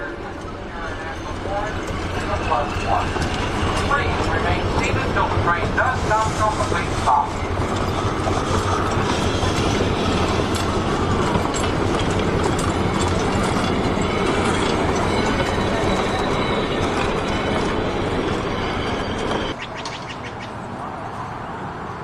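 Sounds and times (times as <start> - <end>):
train wheels rumbling on rail: 0.0 - 20.2.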